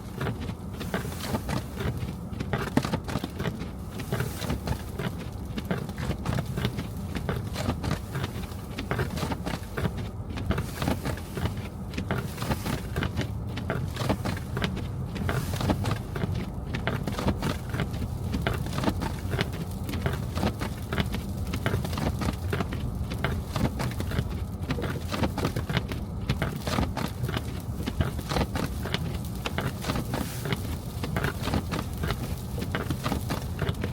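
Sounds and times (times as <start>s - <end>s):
crackle and patter of snow: 0.0s - 33.9s
low road rumble: 0.0s - 33.9s.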